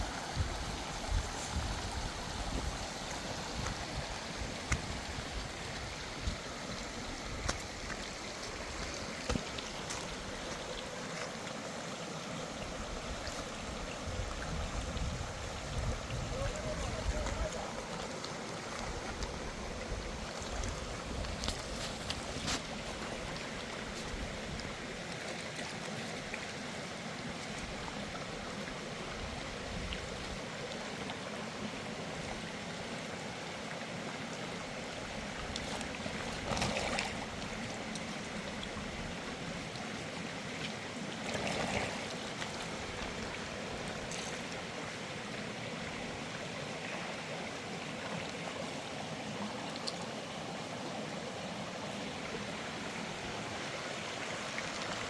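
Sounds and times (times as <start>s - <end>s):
rushing flowing water: 0.0s - 55.0s.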